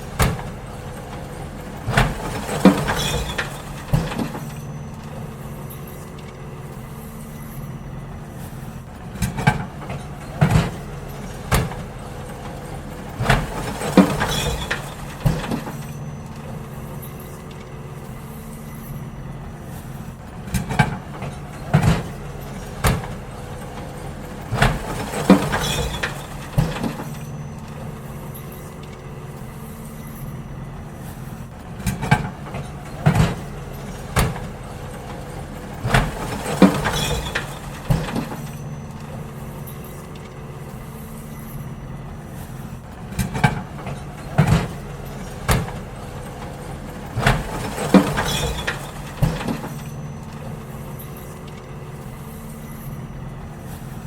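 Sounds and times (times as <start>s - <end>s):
bins banging against hopper: 0.0s - 54.0s
garbage truck engine running: 0.0s - 54.0s.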